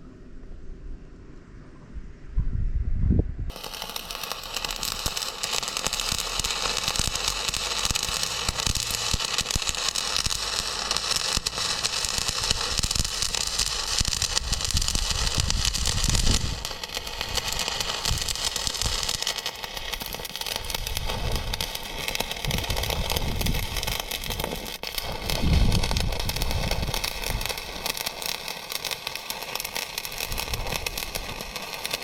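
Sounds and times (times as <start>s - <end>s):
welding arc crackling and sizzling: 3.5s - 32.0s.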